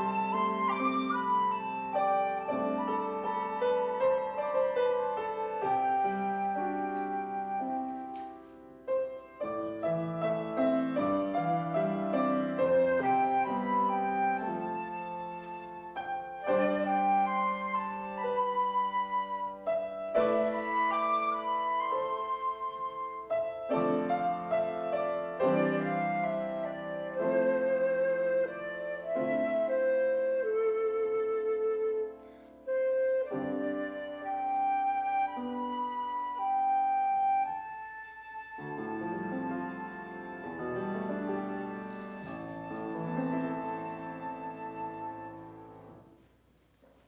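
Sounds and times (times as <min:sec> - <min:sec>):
flute-like melody: 0:00.0 - 0:47.0
piano accompaniment: 0:00.0 - 0:47.0.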